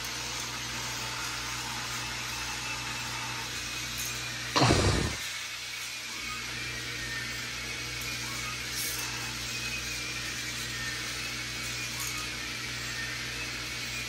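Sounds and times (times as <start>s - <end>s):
toy ride motors whirring: 0.0s - 14.0s.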